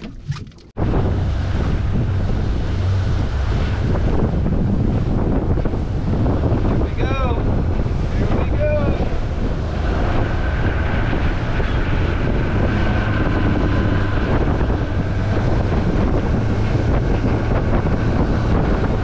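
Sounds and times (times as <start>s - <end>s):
low engine drone: 0.0s - 19.0s
water rushing past hull: 0.0s - 19.0s
wind rushing over microphone: 0.0s - 19.0s.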